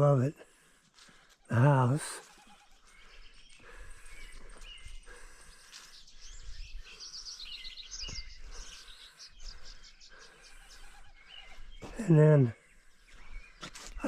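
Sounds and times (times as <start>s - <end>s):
swallows twittering: 0.9s - 14.0s.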